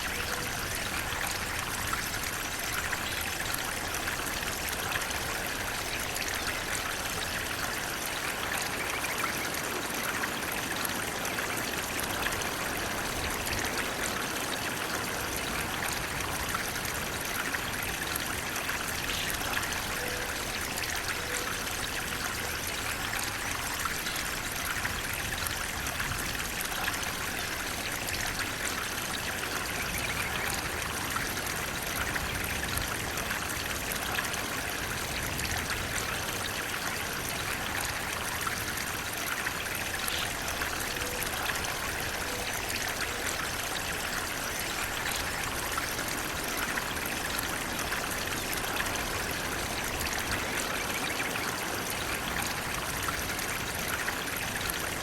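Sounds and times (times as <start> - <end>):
water flowing over rocks: 0.0 - 55.0.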